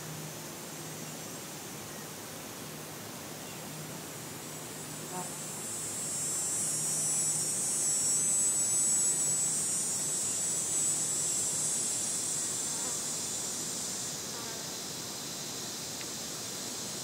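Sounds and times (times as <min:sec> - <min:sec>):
cicada buzzing: 0:02.8 - 0:17.0.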